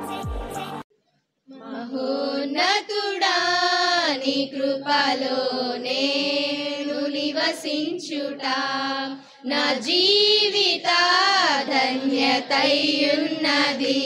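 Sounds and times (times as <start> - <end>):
girls singing worship song in unison: 1.5 - 14.0.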